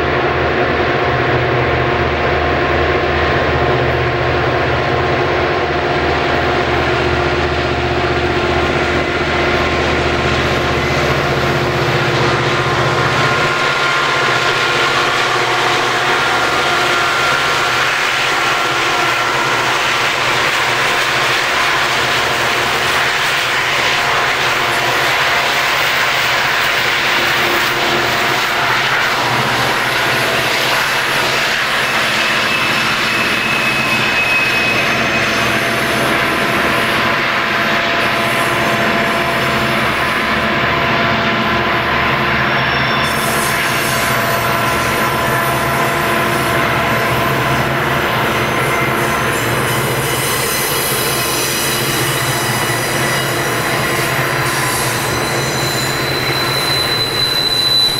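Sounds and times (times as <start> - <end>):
diesel locomotive engines droning: 0.0 - 57.9
freight cars rolling by: 0.0 - 57.9.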